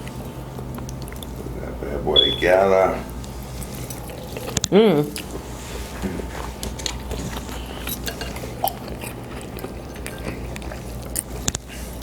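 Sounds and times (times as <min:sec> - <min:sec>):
person chewing food: 0:00.0 - 0:01.5, 0:03.3 - 0:12.0.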